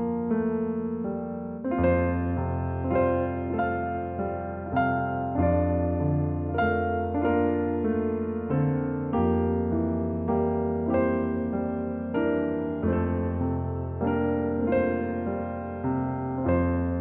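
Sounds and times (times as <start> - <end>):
piano chords over bass notes: 0.0 - 17.0.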